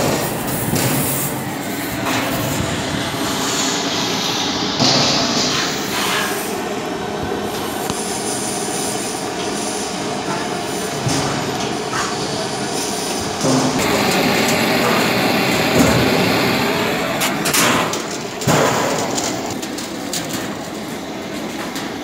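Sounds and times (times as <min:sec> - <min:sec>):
gas blowtorch flame roaring: 0:00.0 - 0:19.6.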